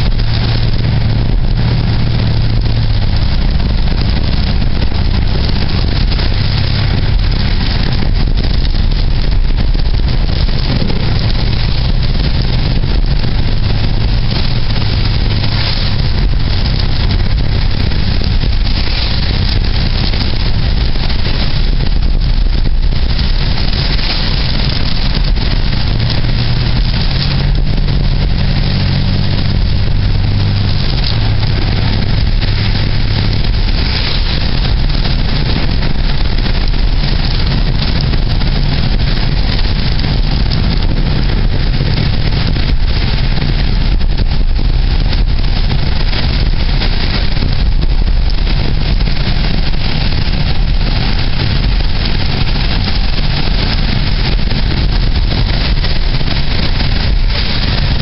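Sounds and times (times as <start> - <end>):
car engine humming: 0.0 - 58.0
vehicle interior road noise: 0.0 - 58.0.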